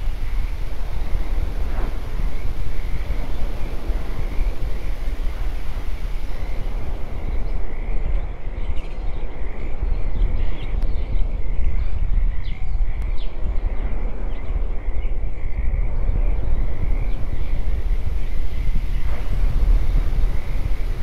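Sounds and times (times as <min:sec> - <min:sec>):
low wind rumble: 0:00.0 - 0:21.0.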